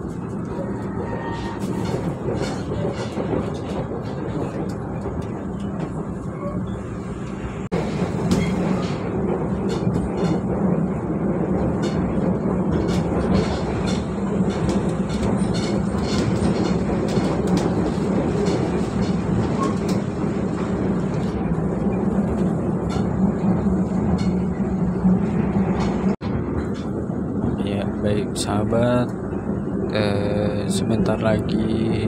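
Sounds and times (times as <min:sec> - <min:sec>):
train clicks and rattles: 0:00.0 - 0:32.0
train rumble and hum: 0:00.0 - 0:32.0.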